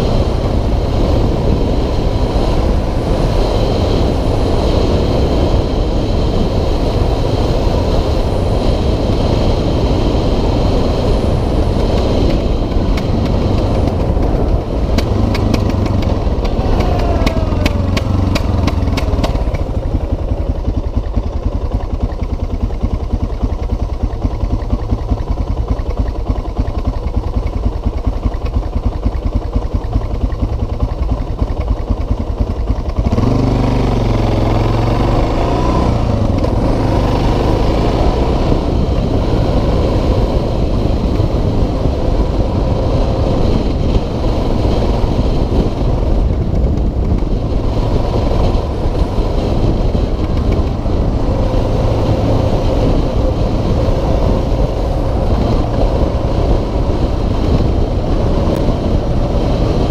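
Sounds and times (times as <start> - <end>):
motorcycle engine: 0.0 - 59.9
wind on microphone: 0.0 - 59.9.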